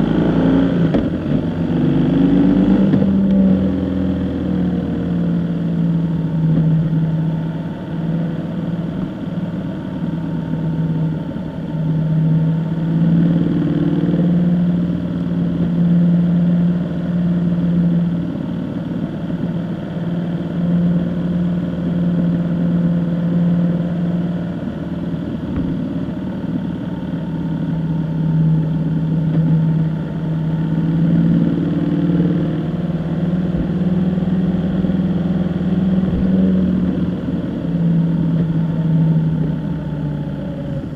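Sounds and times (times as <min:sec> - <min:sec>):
road noise: 0:00.0 - 0:40.9
vehicle engine humming: 0:00.0 - 0:40.9.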